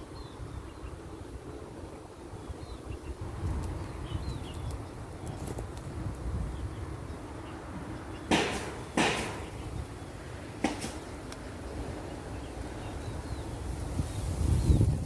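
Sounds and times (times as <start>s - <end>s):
wind rumble on microphone: 0.0s - 8.1s, 9.5s - 15.0s.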